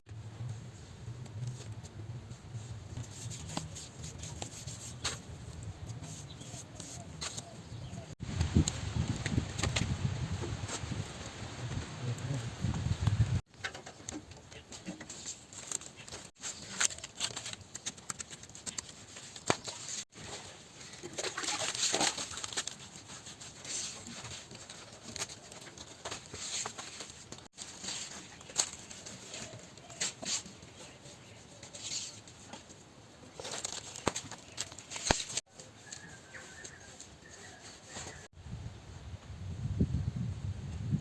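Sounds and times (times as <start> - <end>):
rustling and crinkling: 0.2 - 38.3.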